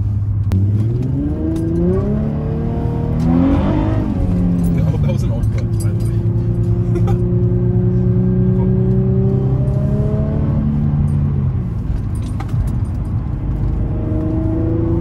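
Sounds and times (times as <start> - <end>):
car engine accelerating: 0.3 - 15.0.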